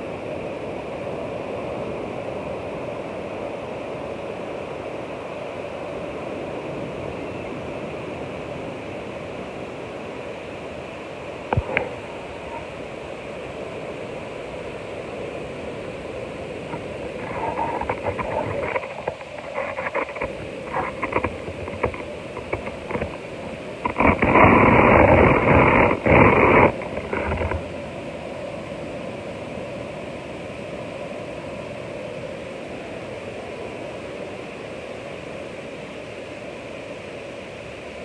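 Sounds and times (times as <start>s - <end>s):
ocean surf rushing: 0.0s - 38.0s.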